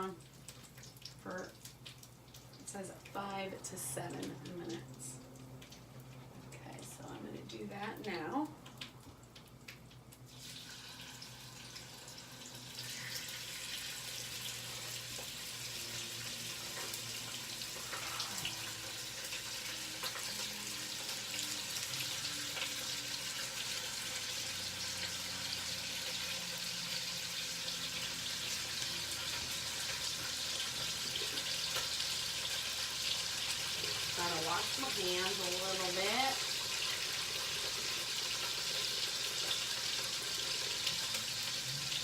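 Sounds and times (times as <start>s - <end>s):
chicken sizzling in hot fat: 0.0s - 6.2s, 7.6s - 42.0s.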